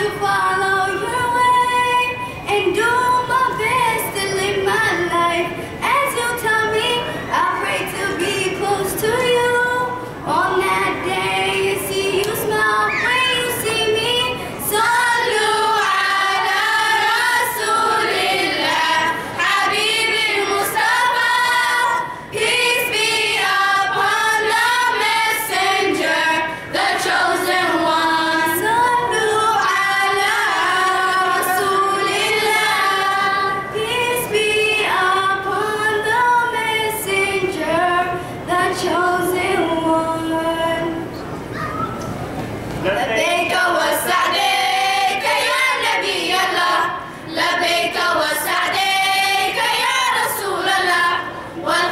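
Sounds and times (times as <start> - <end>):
girls singing a cappella: 0.0 - 41.3, 42.8 - 51.9
girl singing into a microphone: 0.0 - 42.1.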